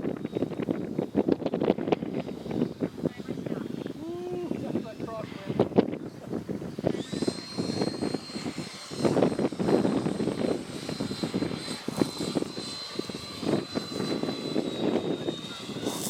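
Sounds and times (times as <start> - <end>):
electric ducted fan whine: 0.0 - 16.0
wind buffeting microphone: 0.0 - 16.0.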